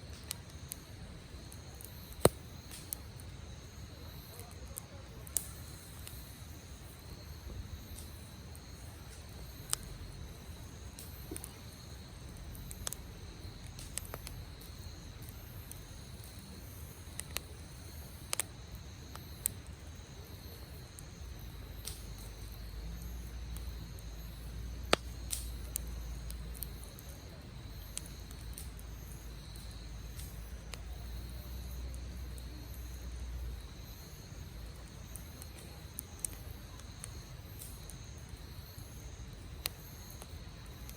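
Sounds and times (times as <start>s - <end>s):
campfire crackling: 0.0s - 40.9s
high insect trill: 0.0s - 40.9s
sharp pops of fire: 0.0s - 40.9s.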